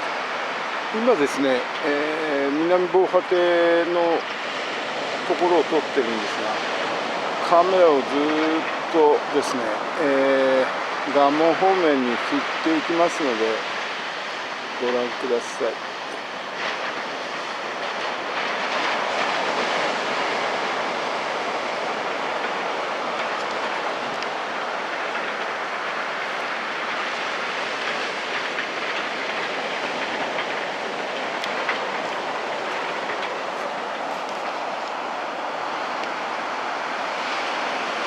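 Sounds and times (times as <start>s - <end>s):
small waves breaking: 0.0s - 38.0s.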